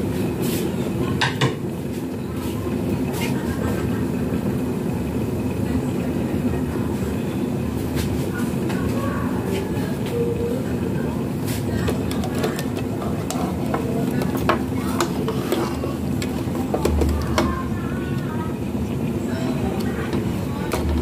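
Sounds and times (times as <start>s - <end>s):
pot boiling with low rumble: 0.0s - 21.0s.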